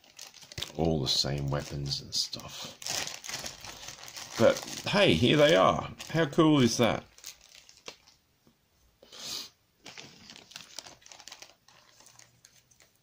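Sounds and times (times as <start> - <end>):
plastic bag crinkling: 0.0 - 8.2, 9.8 - 13.0.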